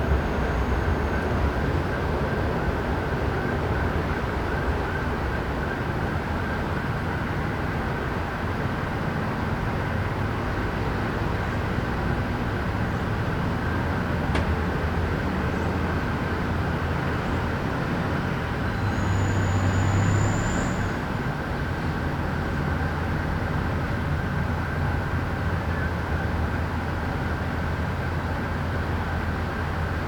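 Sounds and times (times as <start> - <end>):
urban traffic hum: 0.0 - 30.0
vehicle engine drone: 0.0 - 30.0.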